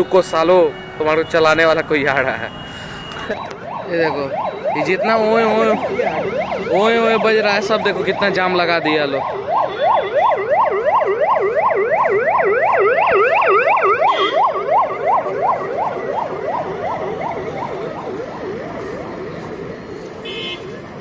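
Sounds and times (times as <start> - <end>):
police sirens wailing: 0.0 - 21.0
road traffic: 0.0 - 21.0.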